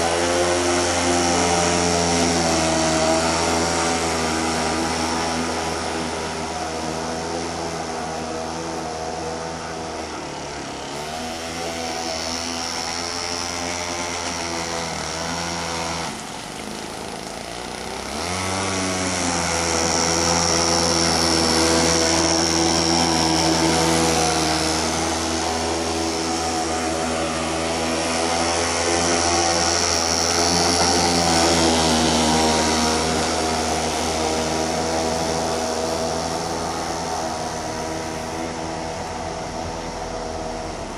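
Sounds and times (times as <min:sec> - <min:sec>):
small engine buzzing: 0:00.0 - 0:40.9.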